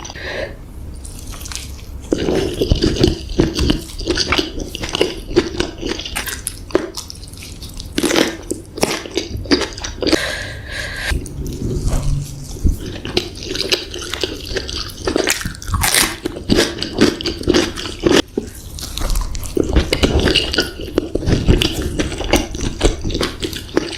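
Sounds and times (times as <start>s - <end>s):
wet chewing and lip-smacking: 1.0s - 10.2s, 11.1s - 23.9s.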